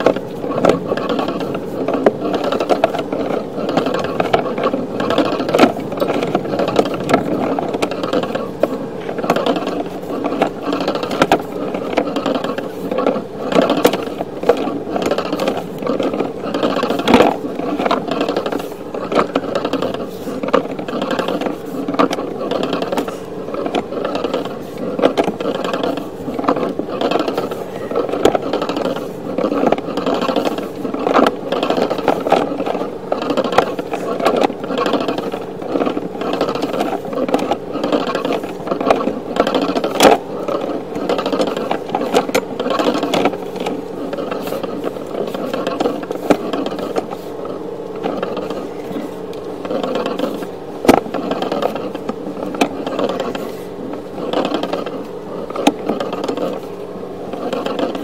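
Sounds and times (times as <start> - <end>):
cable scraping and rattling in pipe: 0.0 - 58.0.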